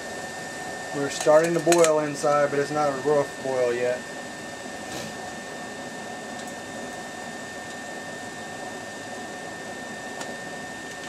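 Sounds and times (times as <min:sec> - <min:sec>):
kettle water boiling: 0:00.0 - 0:11.0
stove fan blowing with whine: 0:00.0 - 0:11.0.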